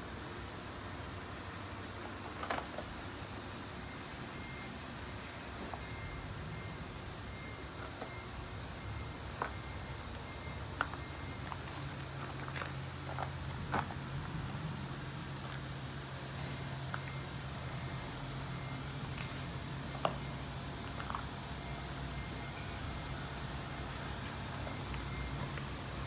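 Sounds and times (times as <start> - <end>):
faint high steady tone: 0.0 - 26.0
outdoor background hiss: 0.0 - 26.0.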